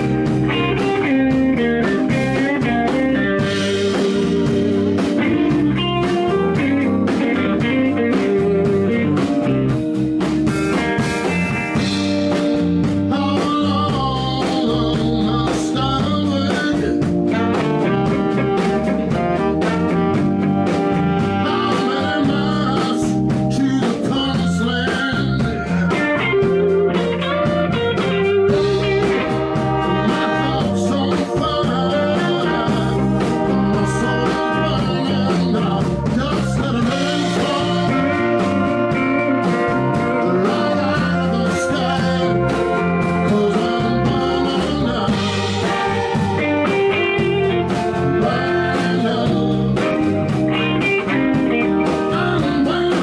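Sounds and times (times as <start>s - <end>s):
blues band playing live: 0.0s - 53.0s
electric guitars: 0.0s - 53.0s
saxophone and trumpet: 0.0s - 53.0s.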